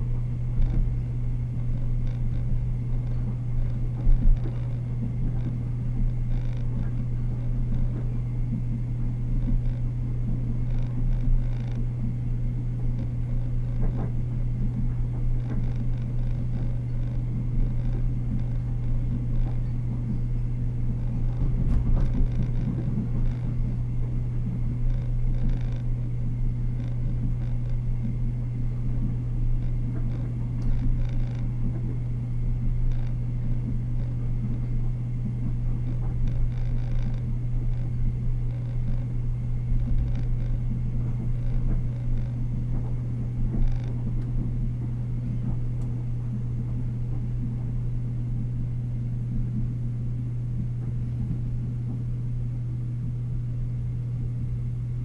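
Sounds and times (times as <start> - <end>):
train cabin hum: 0.0 - 55.0.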